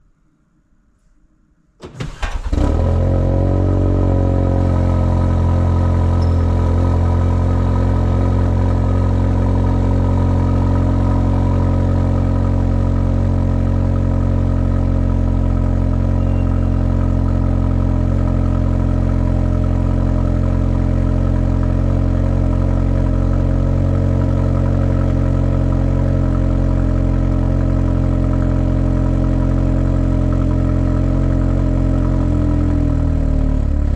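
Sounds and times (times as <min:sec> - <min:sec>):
car engine starting and idling: 0:01.8 - 0:33.9.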